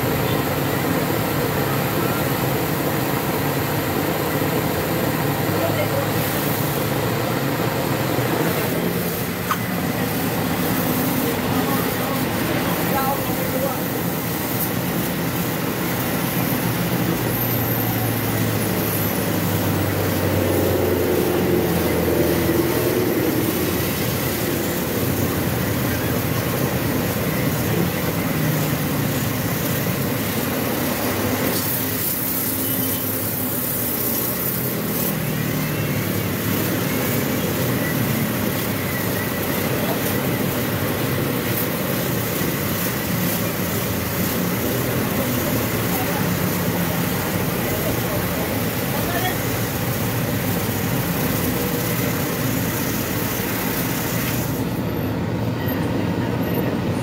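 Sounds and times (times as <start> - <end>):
blowtorch flame roaring: 0.0 - 55.5.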